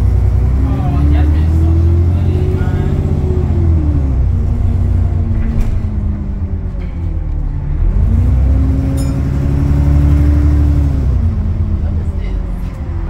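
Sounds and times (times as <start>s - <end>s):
bus engine revving: 0.0s - 13.0s.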